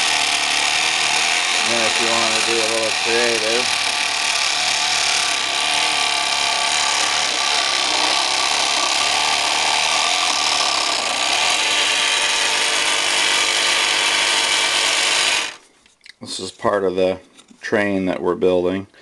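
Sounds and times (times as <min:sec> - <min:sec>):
electric jigsaw cutting wood: 0:00.0 - 0:15.6.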